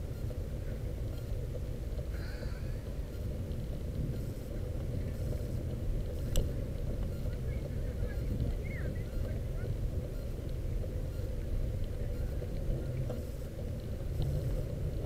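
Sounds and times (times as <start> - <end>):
bicycle tyres rolling on asphalt: 0.0 - 15.0
wind on microphone: 0.0 - 15.0.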